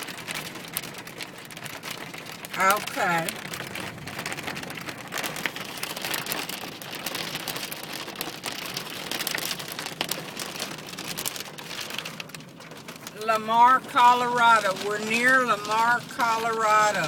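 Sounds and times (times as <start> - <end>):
rain pelting a van: 0.0 - 17.0.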